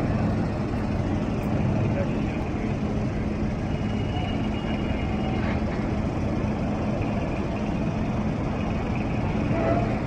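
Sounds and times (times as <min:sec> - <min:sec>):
heavy machinery droning: 0:00.0 - 0:10.0.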